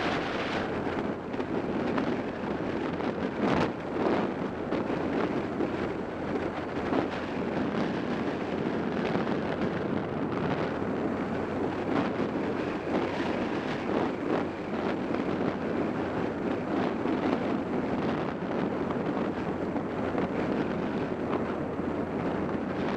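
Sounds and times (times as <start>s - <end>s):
road noise: 0.0s - 22.9s
wind buffeting microphone: 0.0s - 22.9s.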